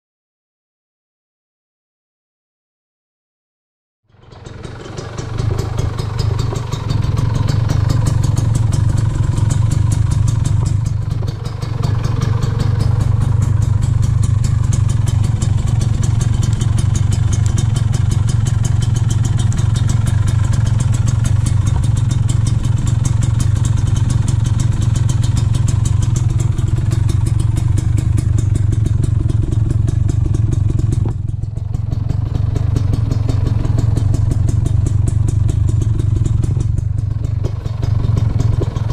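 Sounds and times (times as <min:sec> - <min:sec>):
motorcycle exhaust raspy note: 0:04.1 - 0:38.9.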